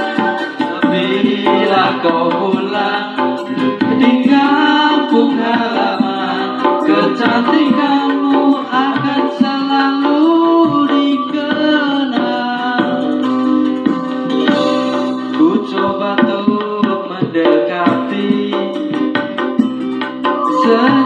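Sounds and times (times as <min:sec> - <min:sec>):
song with singing and percussion: 0:00.0 - 0:21.0.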